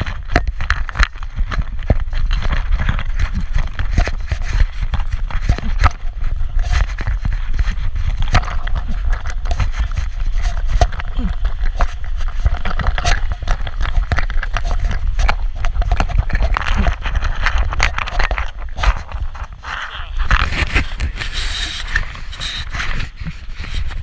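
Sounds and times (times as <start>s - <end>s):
low rumble of rubbing: 0.0s - 24.0s.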